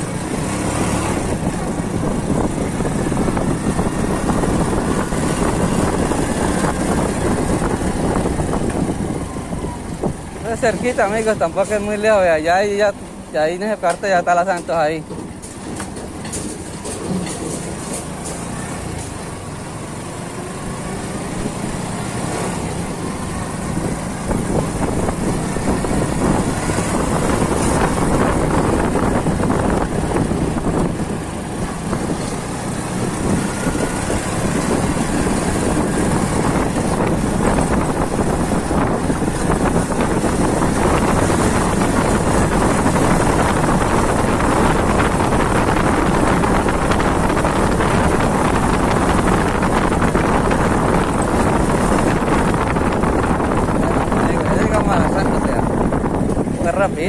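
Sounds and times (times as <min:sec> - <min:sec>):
motorcycle engine running: 0:00.0 - 0:11.9, 0:13.8 - 0:57.0
wind on microphone: 0:00.0 - 0:19.2, 0:21.1 - 0:57.0.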